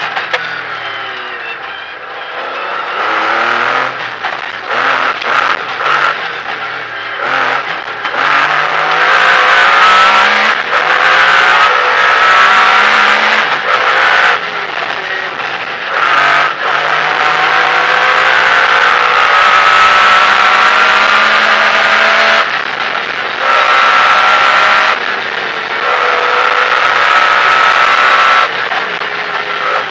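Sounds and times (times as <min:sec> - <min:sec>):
rally car engine revving: 0:00.0 - 0:29.9.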